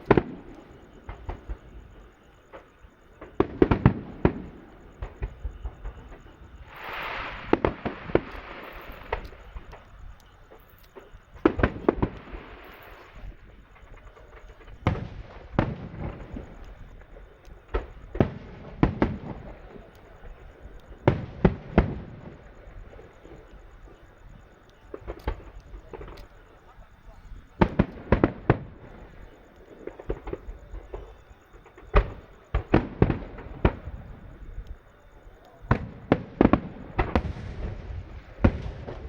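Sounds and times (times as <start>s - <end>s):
fireworks bangs: 0.0s - 39.0s
fireworks hissing crackle: 0.0s - 39.0s.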